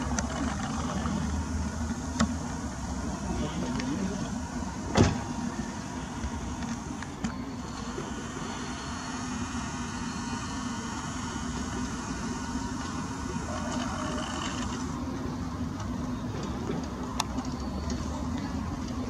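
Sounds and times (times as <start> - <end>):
faint constant hum: 0.0 - 19.0
low outdoor rumble: 0.0 - 19.0.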